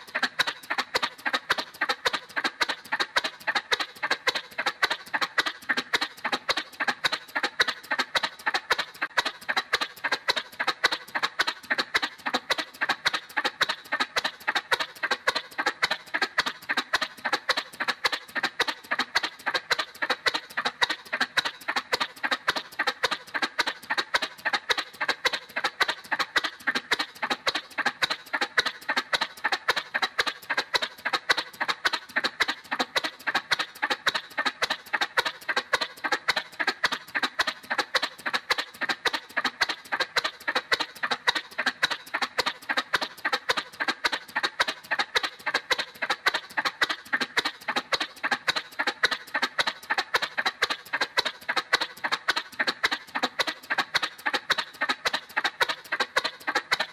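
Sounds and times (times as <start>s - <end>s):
cartoon motorcycle putt-putt: 0.0s - 56.9s.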